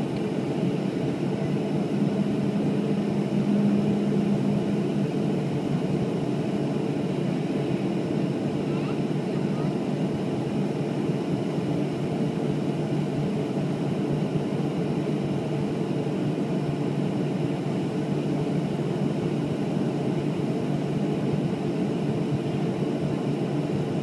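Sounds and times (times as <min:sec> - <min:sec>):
jet engines droning in cabin: 0:00.0 - 0:24.0.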